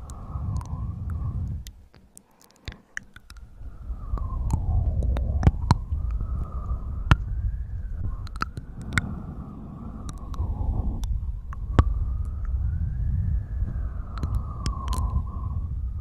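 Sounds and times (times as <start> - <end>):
low rumbling rub: 0.0 - 1.8, 3.5 - 16.0
sharp clicks and crackles: 0.0 - 9.1, 10.0 - 12.6, 13.7 - 15.3.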